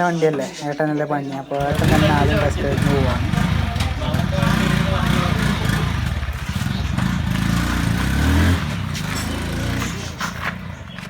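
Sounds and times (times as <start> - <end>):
motorcycle engine running: 1.6 - 11.0.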